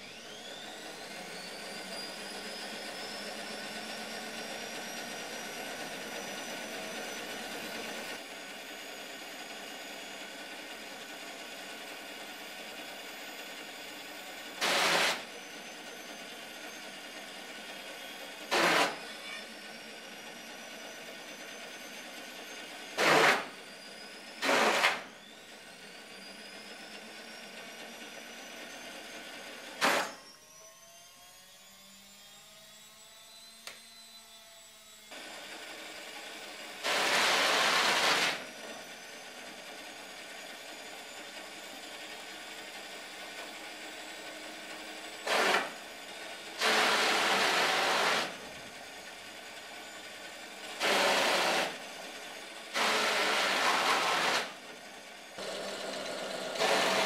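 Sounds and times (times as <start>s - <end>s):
shredder motor running: 0.0s - 57.0s.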